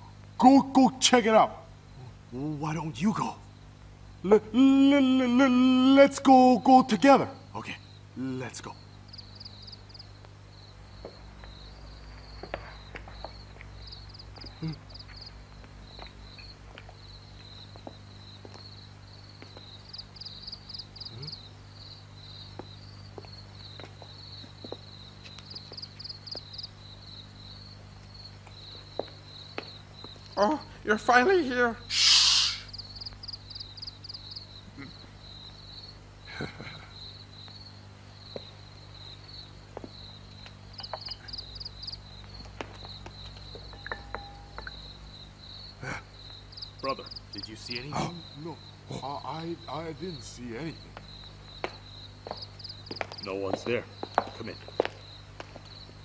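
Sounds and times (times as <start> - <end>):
faint low hum: 0.0 - 51.6
crickets chirping: 0.0 - 56.0.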